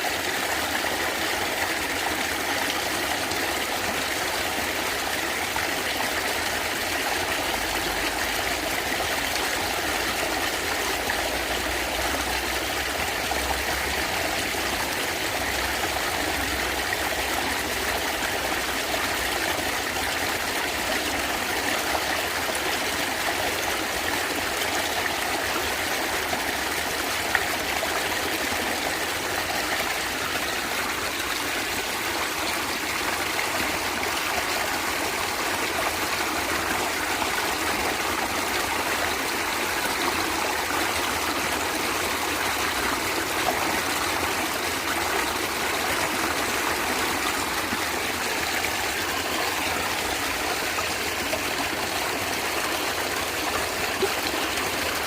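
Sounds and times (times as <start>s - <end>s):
stream gurgling: 0.0s - 55.0s.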